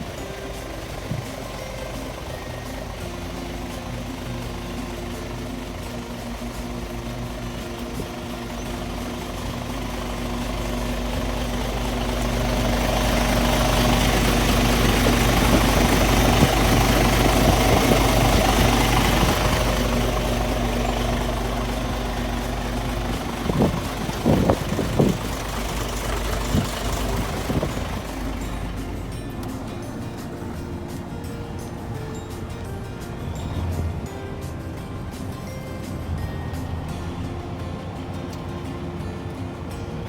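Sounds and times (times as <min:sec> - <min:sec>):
diesel truck engine idling: 0:00.0 - 0:40.0.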